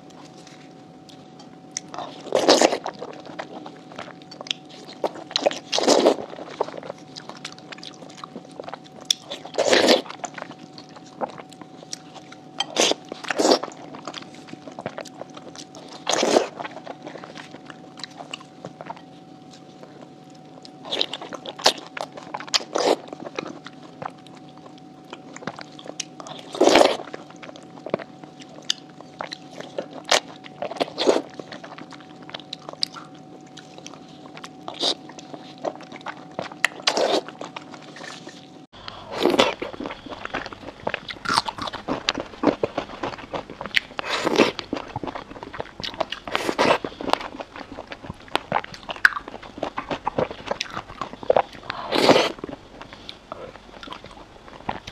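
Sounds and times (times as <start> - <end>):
wet biting and chewing: 1.1 - 54.9.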